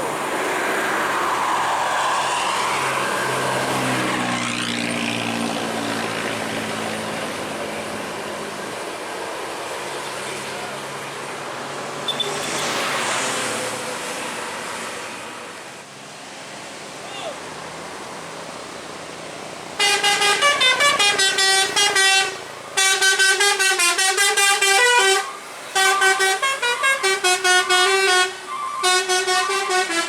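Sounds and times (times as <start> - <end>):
bus engine humming: 0.0 - 30.0
traffic noise: 0.0 - 30.0.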